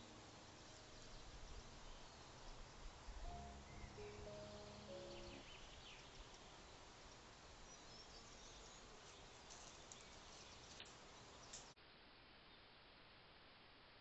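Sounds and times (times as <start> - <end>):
faint bird chirps: 0.0 - 11.8
microphone hiss: 0.0 - 14.0.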